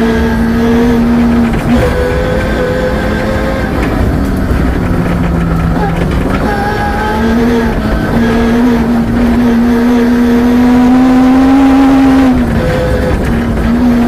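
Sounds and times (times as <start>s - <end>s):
rally car engine at high revs: 0.0s - 14.0s
rumbling road noise: 0.0s - 14.0s.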